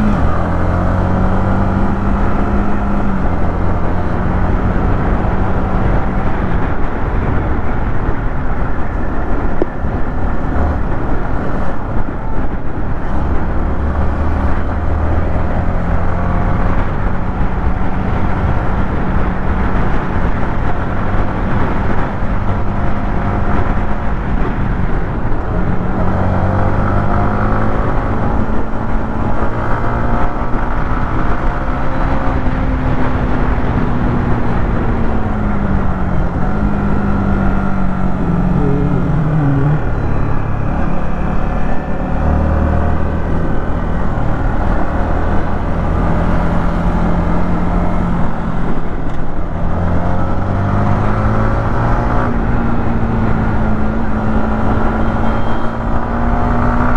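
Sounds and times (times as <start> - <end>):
motorcycle engine while riding: 0.0 - 56.9.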